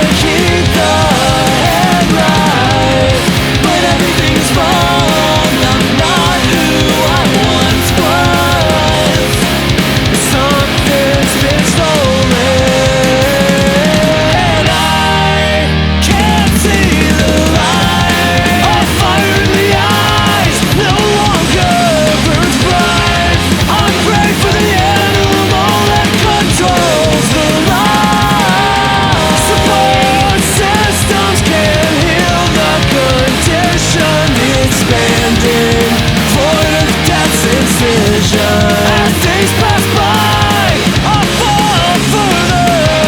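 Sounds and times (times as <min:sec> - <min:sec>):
bass: 0:00.0 - 0:43.0
distorted electric guitars: 0:00.0 - 0:43.0
drums: 0:00.0 - 0:43.0
melodic guitar lead line: 0:00.0 - 0:43.0
punk rock music: 0:00.0 - 0:43.0.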